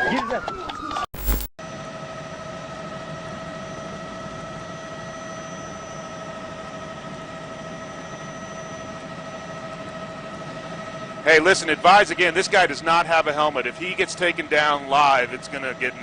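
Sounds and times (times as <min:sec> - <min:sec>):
turbine whine: 0:00.2 - 0:16.0.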